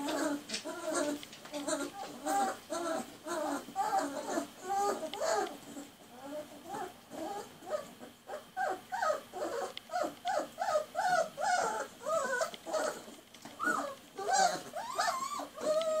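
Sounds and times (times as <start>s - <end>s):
puppies whimpering: 0.0s - 16.0s.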